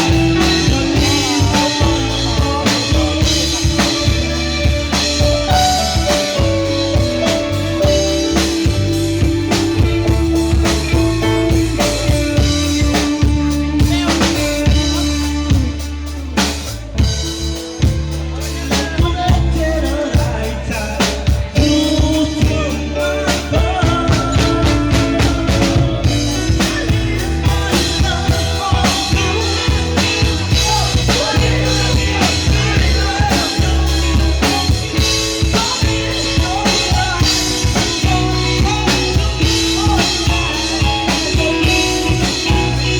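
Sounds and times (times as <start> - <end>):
drum kit beat: 0.0 - 42.9
person singing: 0.0 - 42.9
sustained bass notes: 0.0 - 42.9.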